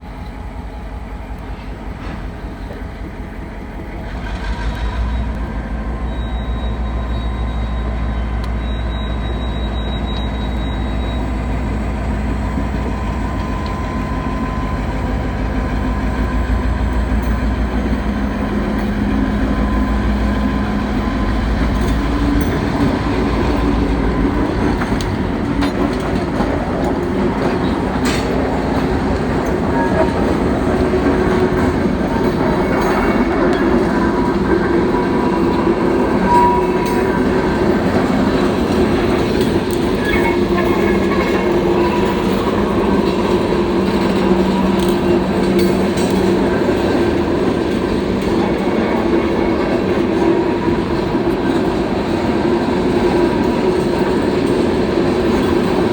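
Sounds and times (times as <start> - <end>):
diesel freight train rumbling: 0.0 - 55.9.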